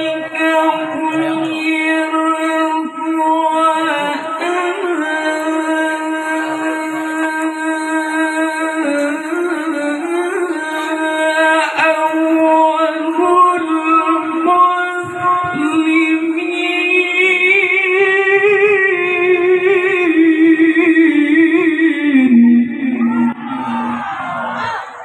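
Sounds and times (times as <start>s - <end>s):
man reciting melodically: 0.0s - 24.6s.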